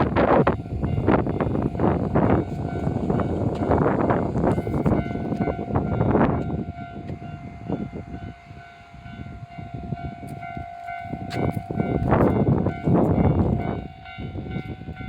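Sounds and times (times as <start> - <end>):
steady high tone: 0.0 - 15.0
train wheels rumbling: 0.0 - 15.0.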